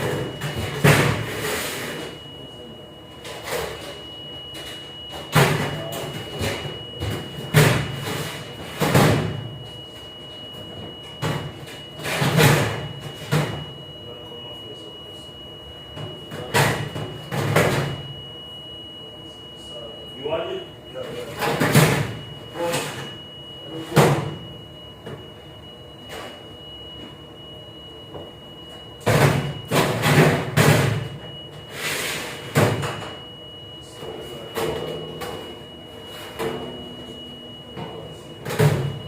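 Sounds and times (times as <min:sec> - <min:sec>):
constant high-pitched tone: 0:00.0 - 0:39.0.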